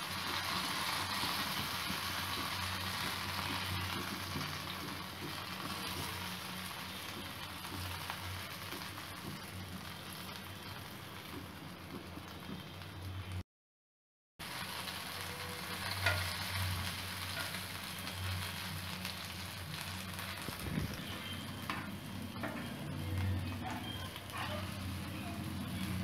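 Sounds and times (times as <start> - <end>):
food sizzling in oil: 0.0 - 13.4, 14.4 - 26.0.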